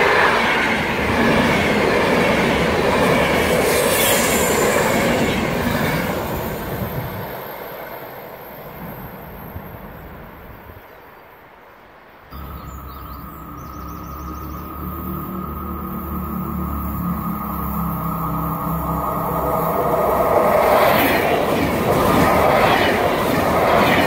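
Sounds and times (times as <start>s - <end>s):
passenger train rolling past: 0.0s - 24.0s.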